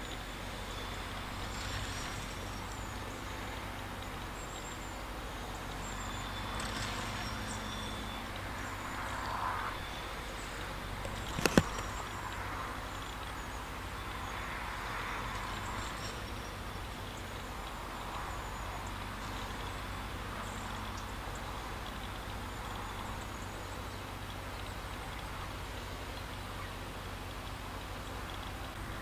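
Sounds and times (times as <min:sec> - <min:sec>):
crane engine hum: 0:00.0 - 0:29.0.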